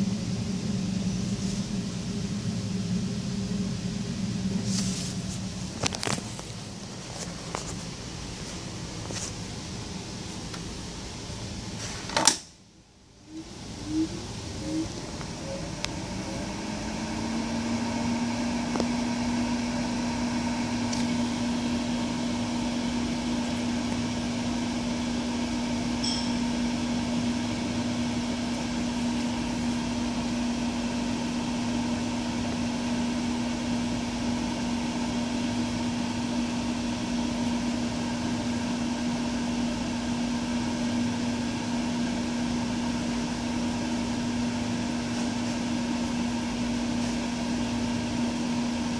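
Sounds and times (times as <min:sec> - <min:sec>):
cooling fan humming: 0:00.0 - 0:48.9.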